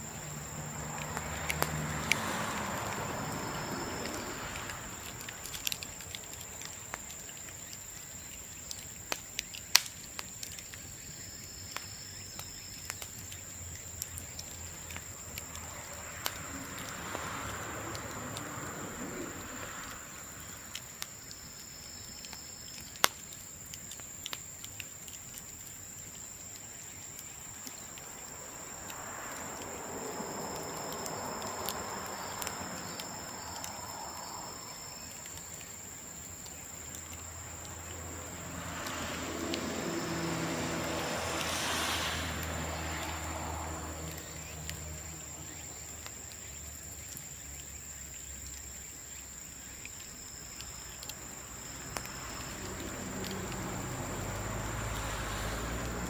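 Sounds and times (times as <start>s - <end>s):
bonfire crackling and popping: 0.0s - 56.0s
high insect trill: 0.0s - 56.0s.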